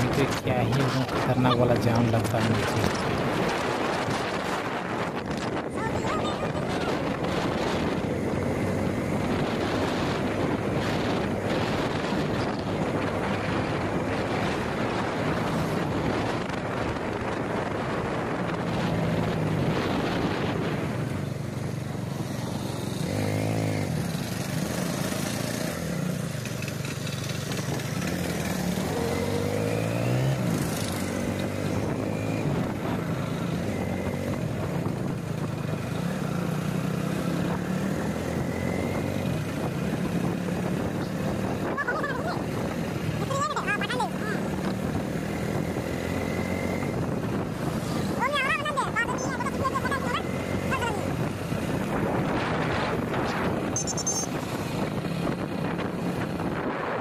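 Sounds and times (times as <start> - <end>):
wind rushing over microphone: 0.0 - 26.3, 27.3 - 57.0
motorcycle engine running: 0.0 - 57.0.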